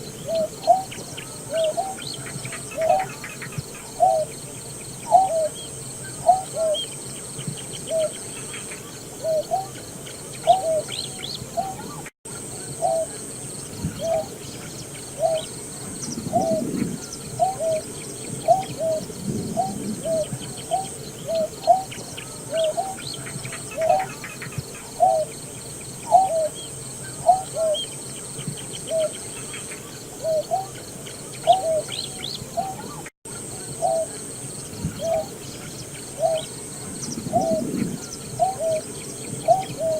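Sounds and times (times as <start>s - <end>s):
bird hooting: 0.0s - 4.4s, 5.0s - 7.0s, 7.8s - 25.4s, 26.0s - 28.0s, 28.7s - 30.8s, 31.4s - 39.9s
faint bird chirps: 0.0s - 39.9s.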